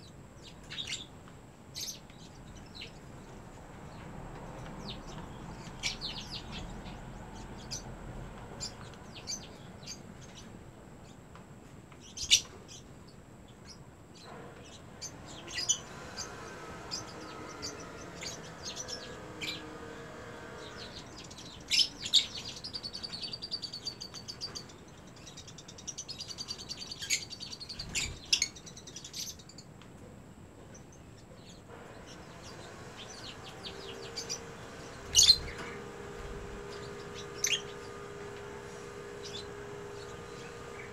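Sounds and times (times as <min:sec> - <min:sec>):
lovebirds chirping: 0:01.8 - 0:11.2, 0:12.0 - 0:29.6, 0:30.7 - 0:40.9.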